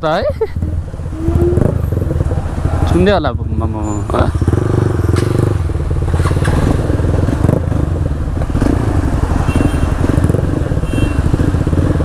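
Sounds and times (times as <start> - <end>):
motorcycle exhaust note: 0.6 - 12.0.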